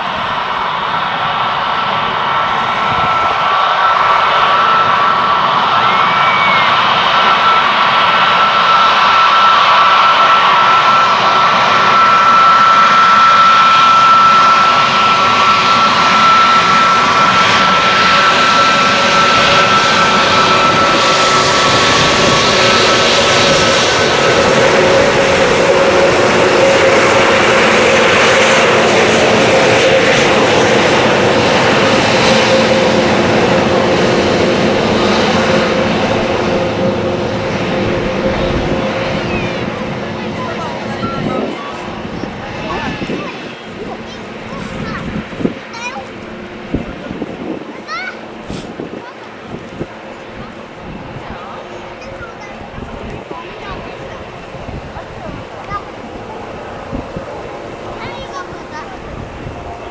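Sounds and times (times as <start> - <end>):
jet engine high whine: 0.0 - 59.9
jet engine roar: 0.0 - 59.9.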